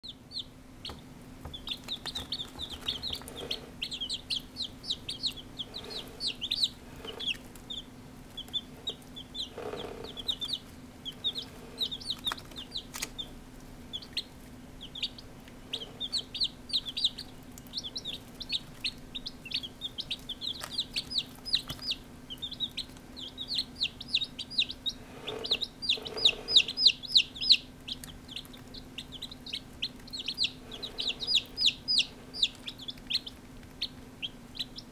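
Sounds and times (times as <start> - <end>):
chicks peeping: 0.0 - 34.9
faint steady hum: 0.0 - 34.9.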